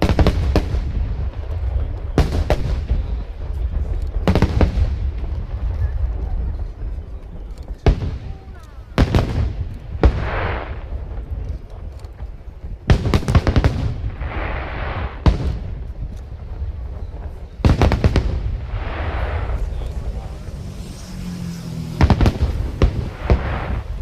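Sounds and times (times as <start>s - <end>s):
fireworks bursting with sharp bangs: 0.0s - 24.0s
hissing spray of fireworks: 0.0s - 24.0s.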